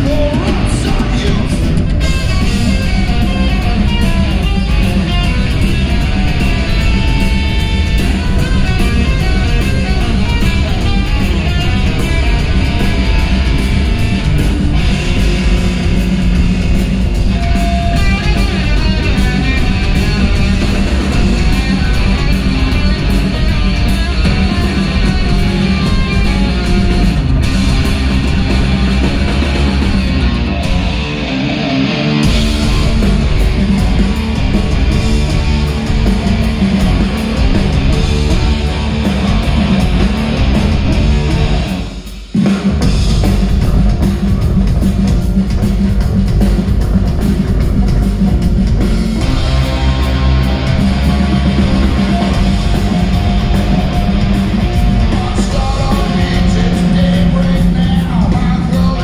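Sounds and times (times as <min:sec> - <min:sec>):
distorted electric guitar: 0:00.0 - 0:59.0
rock band playing live: 0:00.0 - 0:59.0.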